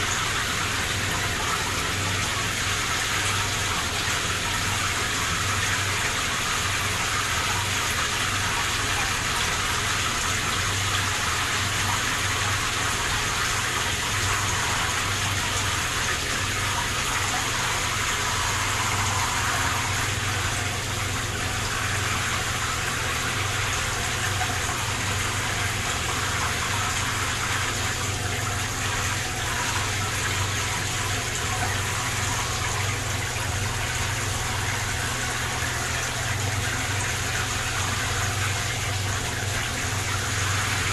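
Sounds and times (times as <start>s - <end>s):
shower spraying into bathtub: 0.0s - 40.9s.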